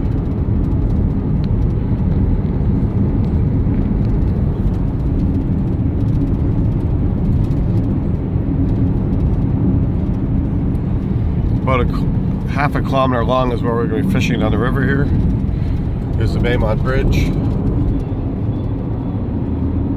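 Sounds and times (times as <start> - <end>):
car road and engine rumble: 0.0 - 19.9.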